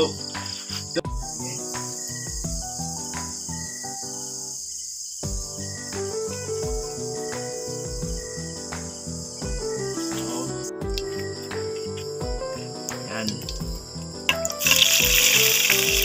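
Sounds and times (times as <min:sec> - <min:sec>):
background music with steady beat: 0:00.0 - 0:04.4, 0:05.2 - 0:16.0
crickets chirring: 0:00.0 - 0:16.0.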